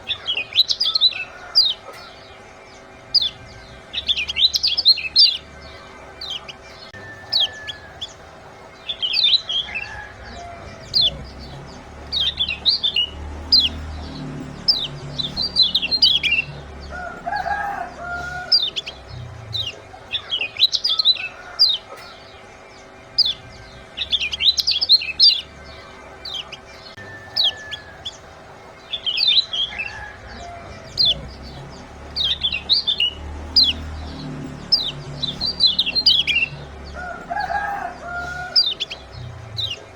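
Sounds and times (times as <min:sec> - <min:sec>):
lower fuller bird call: 0:00.0 - 0:39.9
white-eyes chirping: 0:00.0 - 0:39.9.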